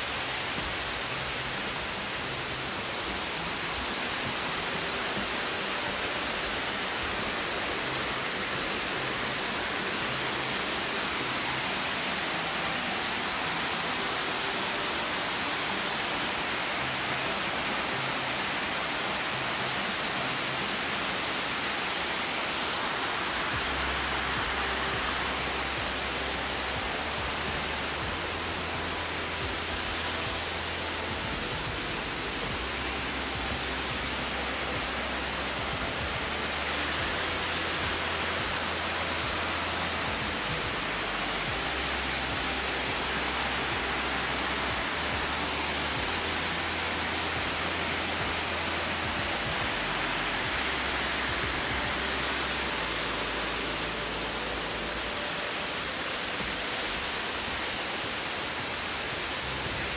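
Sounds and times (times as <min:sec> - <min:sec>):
rush of falling water: 0:00.0 - 0:59.9.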